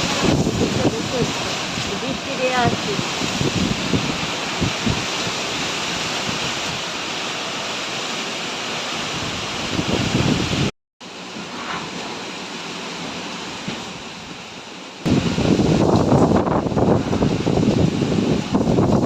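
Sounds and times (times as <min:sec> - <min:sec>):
wind gusting on microphone: 0:00.0 - 0:07.5, 0:08.9 - 0:12.2, 0:13.5 - 0:19.0
rain pouring: 0:00.0 - 0:19.0.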